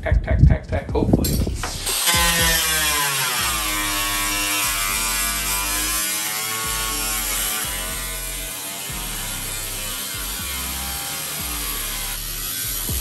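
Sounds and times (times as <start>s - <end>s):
angle grinder cutting sheet steel: 1.3s - 13.0s.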